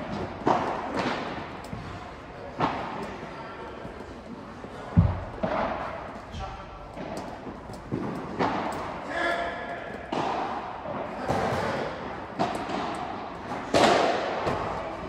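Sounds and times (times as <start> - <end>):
ball hitting racket and walls: 0.0 - 15.0
players' voices: 0.0 - 15.0.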